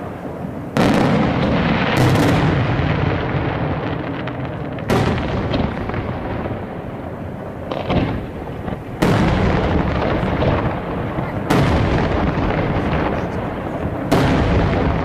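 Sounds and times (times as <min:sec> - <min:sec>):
fireworks bangs: 0:00.0 - 0:15.0
fireworks rumble and crackle: 0:00.0 - 0:15.0.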